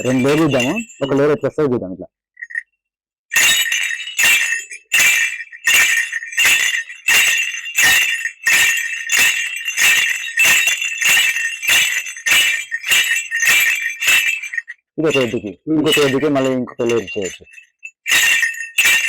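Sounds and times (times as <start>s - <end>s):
cattle bells jingling: 0.0s - 1.5s, 2.4s - 2.6s, 3.3s - 19.0s.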